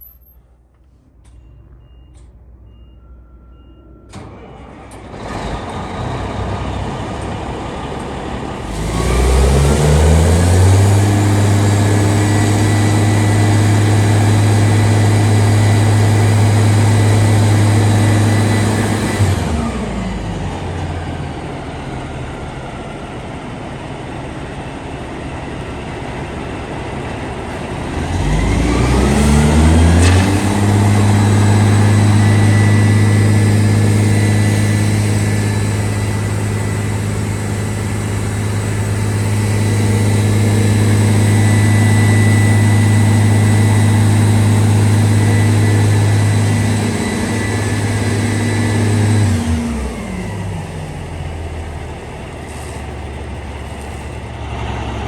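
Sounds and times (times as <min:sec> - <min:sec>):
diesel engine running: 0:04.1 - 0:55.0.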